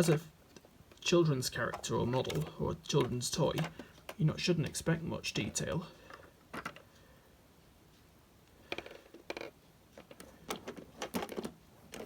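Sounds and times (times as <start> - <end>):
light clicks and knocks of plastic toy: 0.0 - 4.8, 5.4 - 6.9, 8.7 - 12.0.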